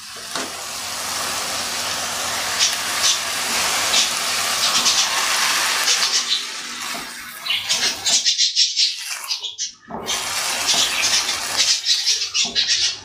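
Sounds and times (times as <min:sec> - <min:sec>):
food sizzling in a pan: 0:00.0 - 0:08.3, 0:08.9 - 0:09.4, 0:10.0 - 0:12.4.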